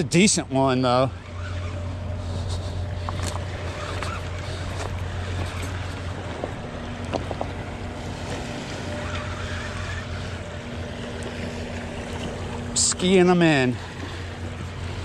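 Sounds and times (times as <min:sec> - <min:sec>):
low steady hum: 0:00.0 - 0:15.0
water noise: 0:00.0 - 0:15.0
wind: 0:00.0 - 0:15.0.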